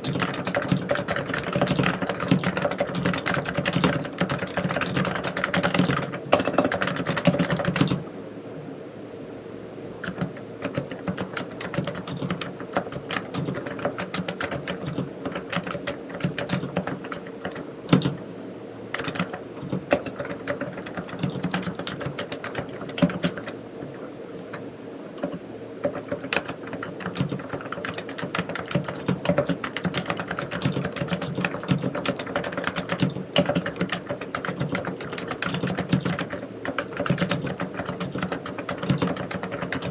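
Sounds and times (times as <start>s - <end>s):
keyboard typing: 0.0s - 8.0s, 10.0s - 18.2s, 18.9s - 39.9s.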